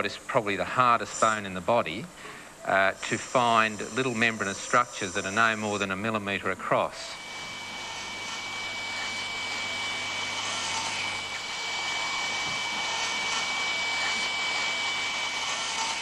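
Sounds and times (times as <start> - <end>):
high-pitched bone drill whine: 2.7 - 16.0.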